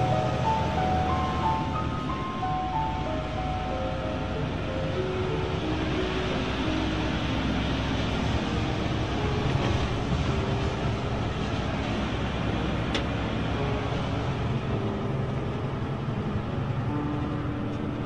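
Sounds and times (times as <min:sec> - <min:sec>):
lorry engine drone: 0:00.0 - 0:18.0
tyre road rumble: 0:00.0 - 0:18.0.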